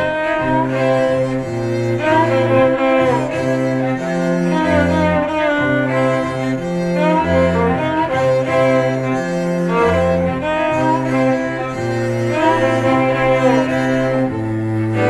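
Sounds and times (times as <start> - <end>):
bowed strings playing slow notes: 0.0 - 15.0.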